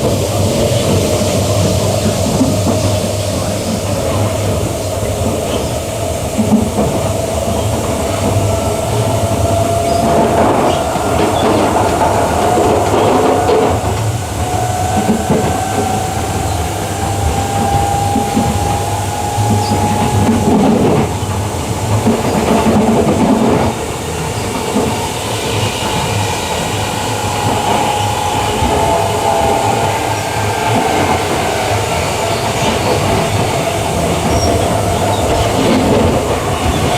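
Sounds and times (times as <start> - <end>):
electric train rumble: 0.0 - 36.9
train motor whine: 0.0 - 36.9
wheels clacking over rail joints: 0.0 - 36.9.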